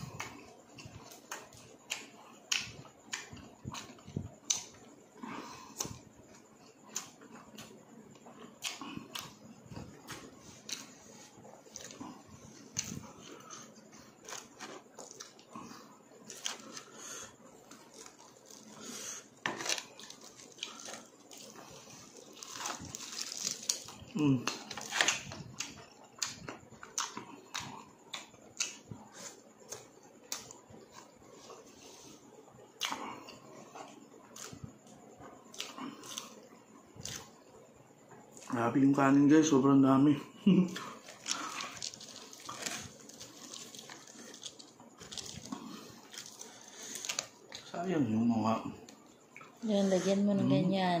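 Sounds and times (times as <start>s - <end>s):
crunchy chewing: 0.0s - 38.6s, 40.4s - 50.1s.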